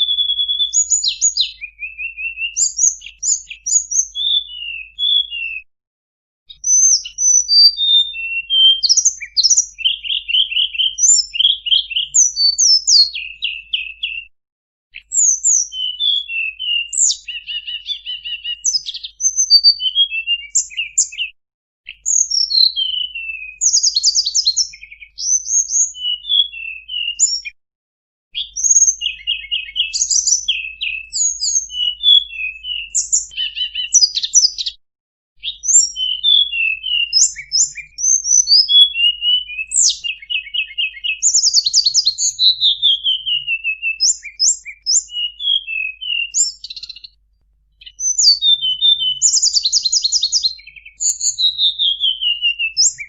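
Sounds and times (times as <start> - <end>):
songbird singing trills: 0.0 - 5.6, 6.5 - 14.3, 15.0 - 21.3, 21.9 - 27.6, 28.3 - 34.8, 35.4 - 47.2, 47.8 - 53.0.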